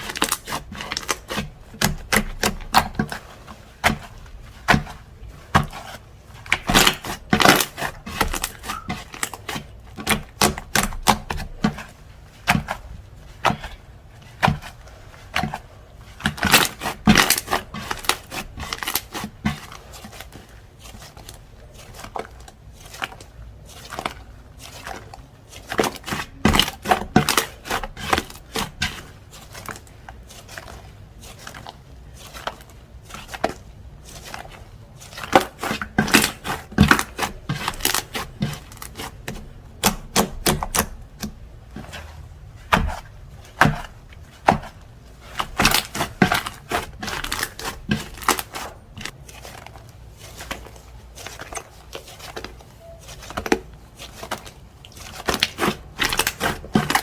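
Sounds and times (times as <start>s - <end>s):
slime crackling and popping: 3.8s - 13.8s, 21.0s - 57.0s.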